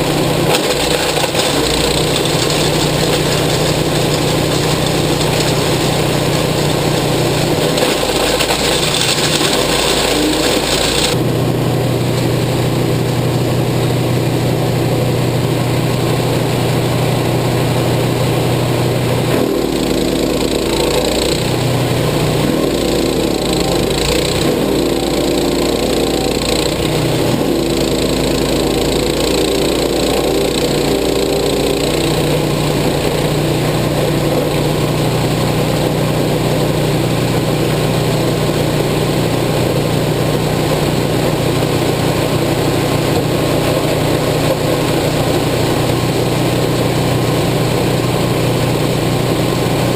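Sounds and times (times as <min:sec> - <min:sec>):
chipper shredder engine running: 0:00.0 - 0:49.9.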